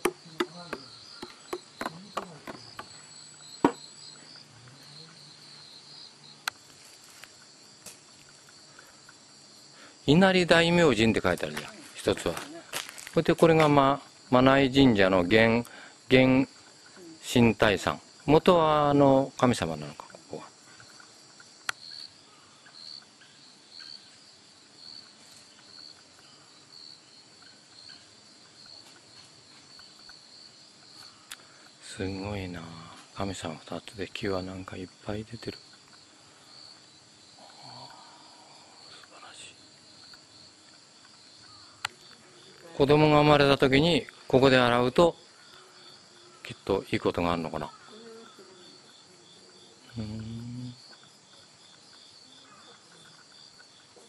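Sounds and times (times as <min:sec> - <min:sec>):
insects buzzing: 0:00.0 - 0:54.0.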